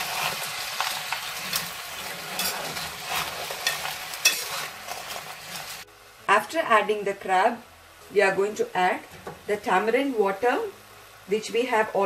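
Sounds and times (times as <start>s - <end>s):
crab sizzling in hot oil: 0.0s - 12.0s.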